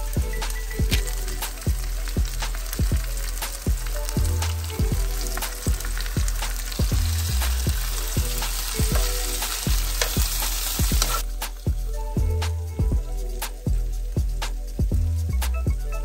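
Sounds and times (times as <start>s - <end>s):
tongs stirring: 0.0s - 14.8s
vegetables sizzling in a pan: 0.0s - 15.6s
musical beat: 0.0s - 16.0s.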